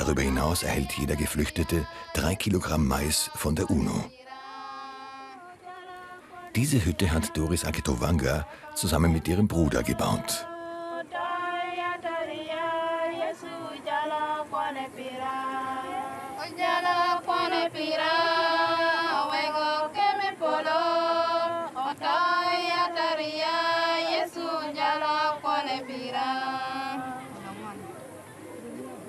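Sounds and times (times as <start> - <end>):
women singing chant-like song: 0.0 - 27.9.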